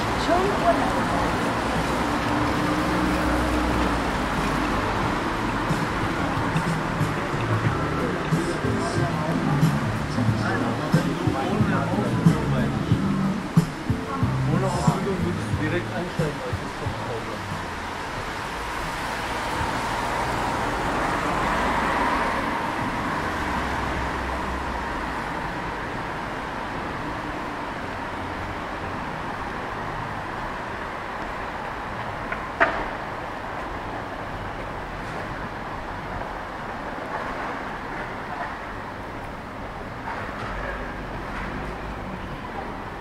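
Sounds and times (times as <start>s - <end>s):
passing traffic: 0.0s - 43.0s.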